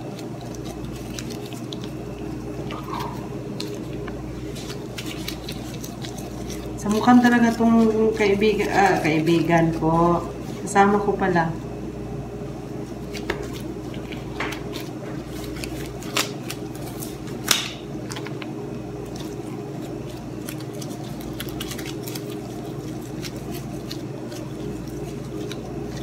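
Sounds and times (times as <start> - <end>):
plastic gloves crinkling: 0.0 - 11.4, 12.7 - 26.0
steady low hum: 0.0 - 26.0.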